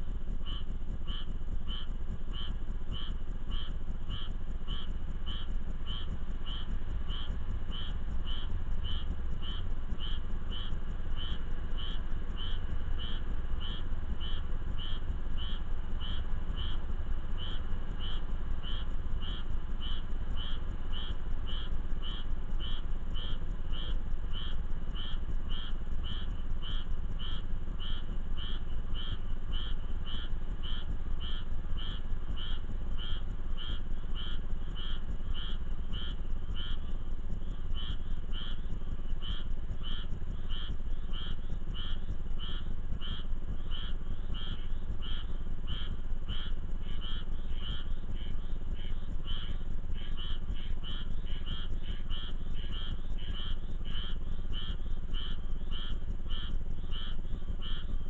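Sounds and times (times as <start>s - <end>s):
frog calling: 0.0s - 58.0s
steady low rumble: 0.0s - 58.0s.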